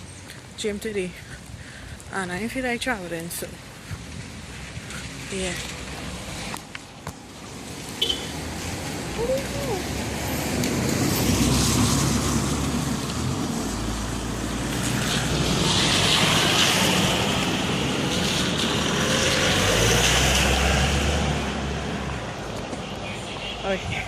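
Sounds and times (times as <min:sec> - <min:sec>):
rain: 0:00.0 - 0:24.0.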